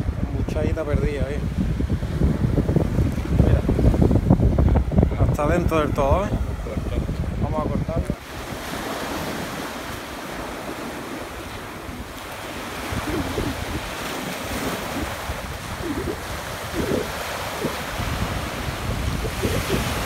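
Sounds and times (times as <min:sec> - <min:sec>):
sea surf breaking: 0:00.0 - 0:20.0
wind gusting on microphone: 0:00.0 - 0:20.0.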